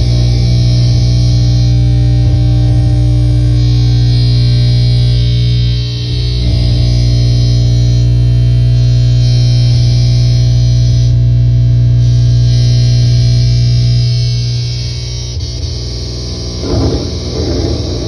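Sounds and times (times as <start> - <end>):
distorted noise drone: 0.0 - 18.0.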